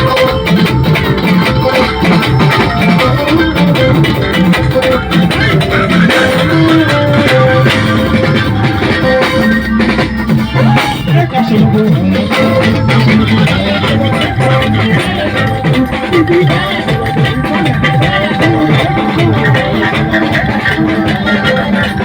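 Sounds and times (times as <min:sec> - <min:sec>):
bass guitar: 0:00.0 - 0:22.0
drums: 0:00.0 - 0:22.0
plucked guitar lines: 0:00.0 - 0:22.0.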